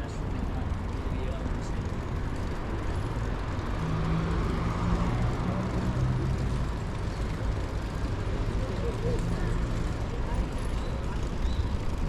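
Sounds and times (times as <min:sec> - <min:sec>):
steady low traffic rumble: 0:00.0 - 0:12.0
vehicle engine hum passing: 0:00.3 - 0:12.0.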